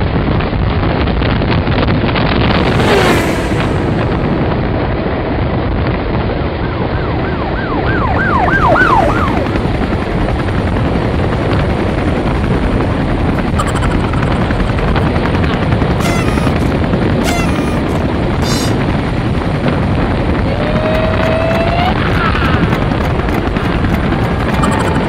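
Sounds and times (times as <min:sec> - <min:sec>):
wind buffeting microphone: 0:00.0 - 0:25.0
moving train running noise: 0:02.0 - 0:25.0.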